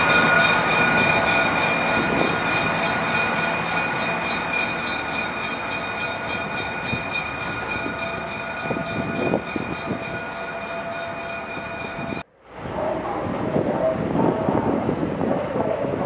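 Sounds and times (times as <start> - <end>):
rail car high whine: 0.0 - 16.0.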